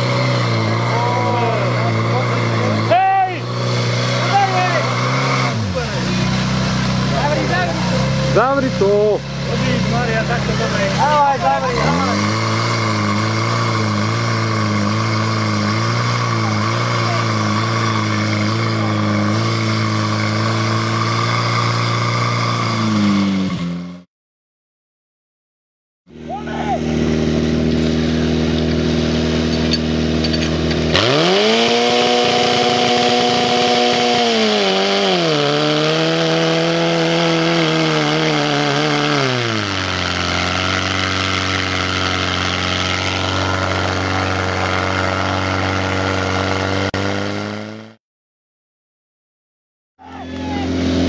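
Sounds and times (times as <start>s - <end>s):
pump engine running hard: 0.0s - 23.3s, 26.4s - 47.9s, 50.6s - 51.0s.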